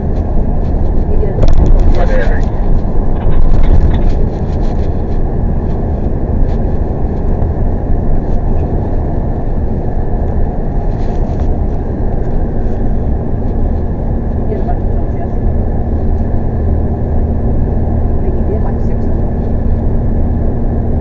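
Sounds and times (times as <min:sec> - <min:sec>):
road noise rumble: 0:00.0 - 0:21.0
truck engine running: 0:00.0 - 0:21.0.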